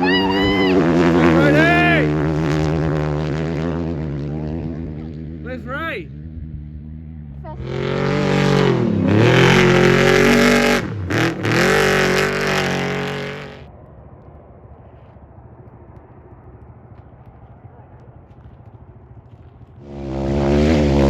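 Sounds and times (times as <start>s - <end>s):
racing engine running hard: 0.0s - 14.5s, 15.1s - 21.0s.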